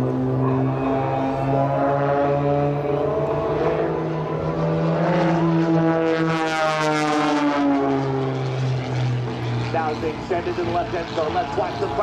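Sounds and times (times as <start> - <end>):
propeller plane engines: 0.0 - 12.0.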